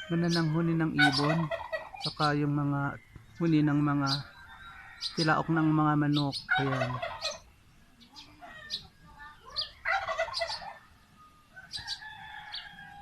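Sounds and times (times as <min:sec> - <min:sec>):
turkey gobbling: 0:00.0 - 0:02.6, 0:04.1 - 0:13.0
small birds chirping: 0:00.0 - 0:13.0.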